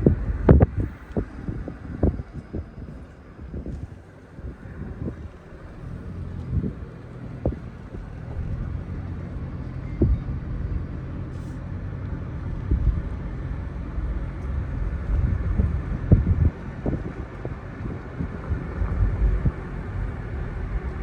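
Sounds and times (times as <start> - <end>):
vehicle engine rumble: 0.0 - 21.0
wind on microphone: 0.0 - 21.0.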